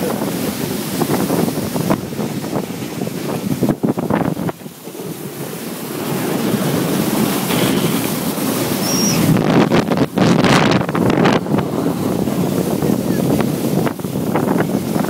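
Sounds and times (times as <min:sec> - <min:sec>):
snow hissing under a tube: 0:00.0 - 0:15.0
snow tube bumping: 0:00.0 - 0:15.0
wind rushing over microphone: 0:00.0 - 0:15.0.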